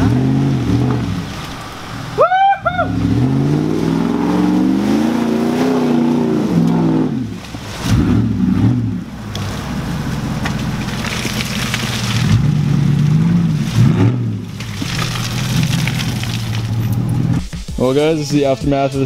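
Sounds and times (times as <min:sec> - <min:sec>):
tires spinning in mud: 0:00.0 - 0:17.4
truck engine revving: 0:00.0 - 0:17.4.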